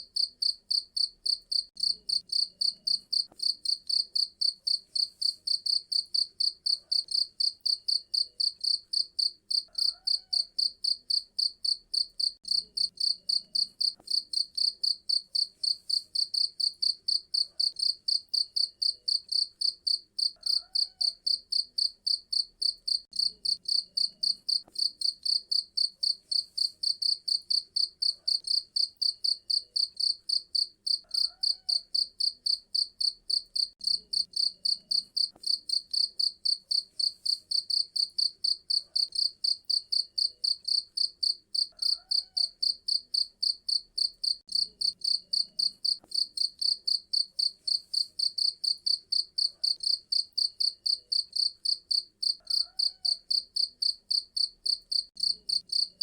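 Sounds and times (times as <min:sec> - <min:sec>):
cricket chirping: 0:00.1 - 0:56.0.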